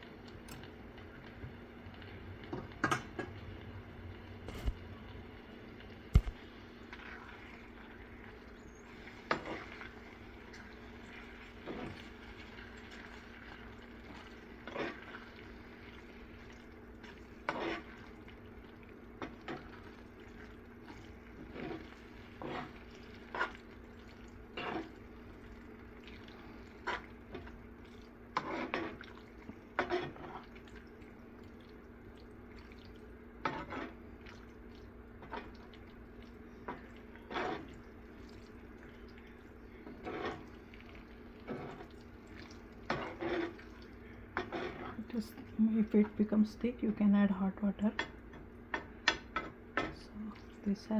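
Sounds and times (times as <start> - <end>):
thick mash bubbling in a pot: 0.0 - 50.9.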